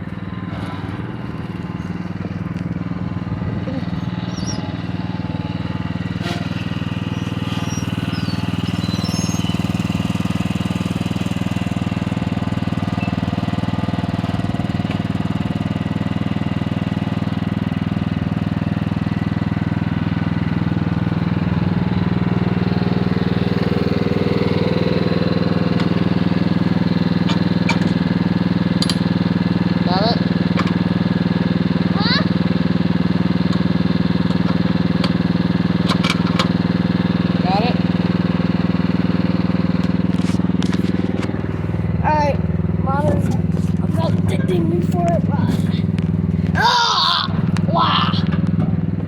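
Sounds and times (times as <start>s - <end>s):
small engine running steadily: 0.0s - 49.0s.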